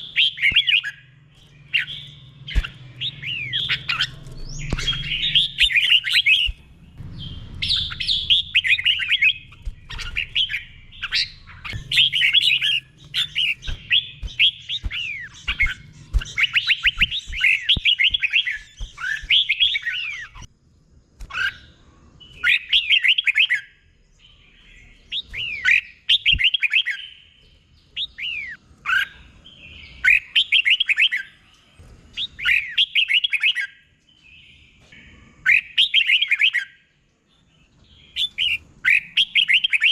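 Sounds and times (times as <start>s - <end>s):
bird singing warbling phrases: 0.0s - 20.6s, 21.3s - 39.9s.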